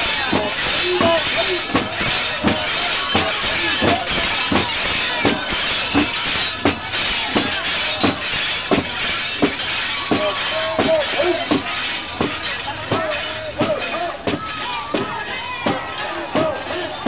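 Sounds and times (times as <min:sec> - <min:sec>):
crowd chanting and shouting: 0:00.0 - 0:17.0
sharp jingling clank: 0:00.0 - 0:17.0.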